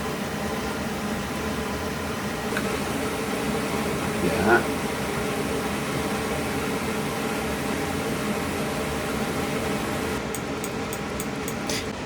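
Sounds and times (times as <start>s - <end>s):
fan-like room noise: 0.0s - 12.0s.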